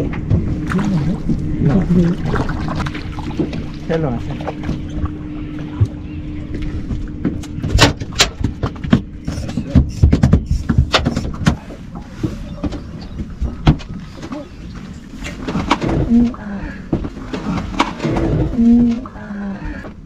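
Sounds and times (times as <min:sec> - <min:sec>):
low rumble: 0:00.0 - 0:19.8
steady low hum: 0:00.0 - 0:20.0.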